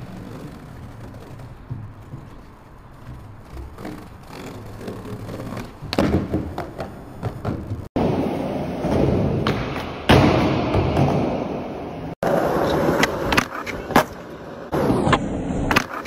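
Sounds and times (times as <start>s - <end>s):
skateboard impacts: 0.0s - 16.0s
skateboard wheels rolling on concrete: 0.0s - 16.0s.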